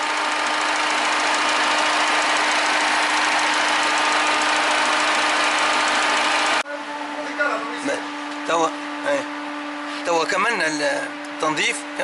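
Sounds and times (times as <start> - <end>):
diesel engine running at raised revs: 0.0 - 12.0
electric radiator fan running: 0.0 - 12.0.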